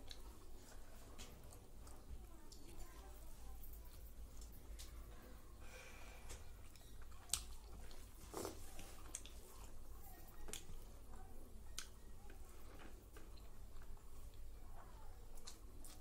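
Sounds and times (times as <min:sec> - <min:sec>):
chewing: 0:00.0 - 0:05.0, 0:06.2 - 0:16.0.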